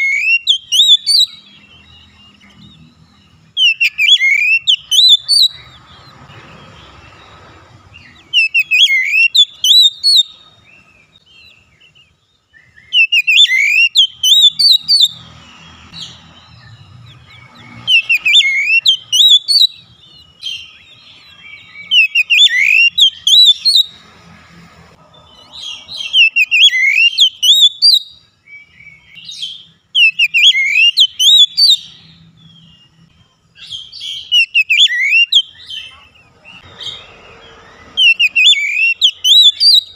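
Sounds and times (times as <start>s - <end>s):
bird singing whistles and chirps: 0.0s - 24.0s, 25.2s - 39.9s.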